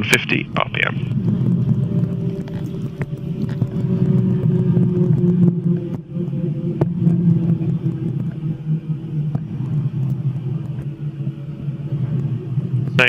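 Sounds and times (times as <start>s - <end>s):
helicopter rotor winding down: 0.0s - 13.0s.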